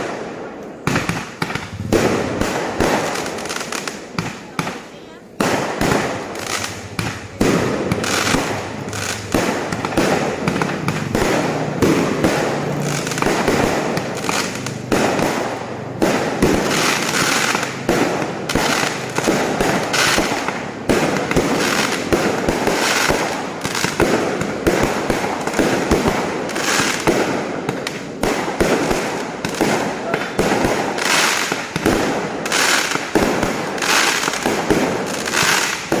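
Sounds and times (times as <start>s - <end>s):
fireworks cracking and banging: 0.0s - 36.0s.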